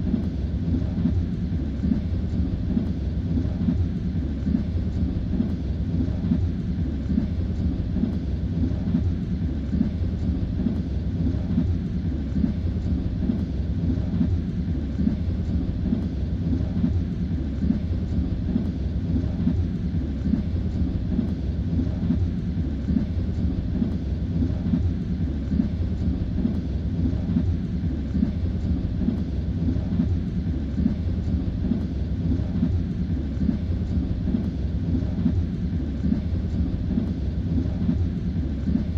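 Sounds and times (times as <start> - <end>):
train rumble inside carriage: 0.0 - 38.9.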